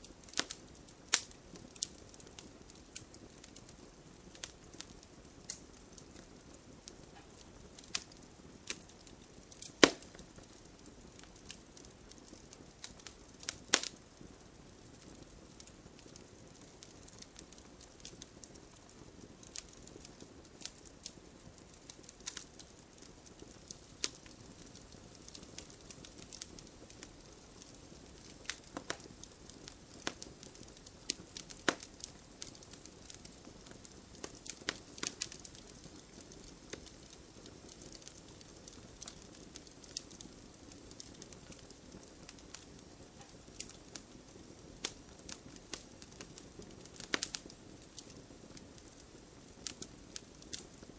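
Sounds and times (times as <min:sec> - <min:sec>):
fire crackling and popping: 0:00.0 - 0:50.9
soft hiss of flames: 0:00.0 - 0:50.9.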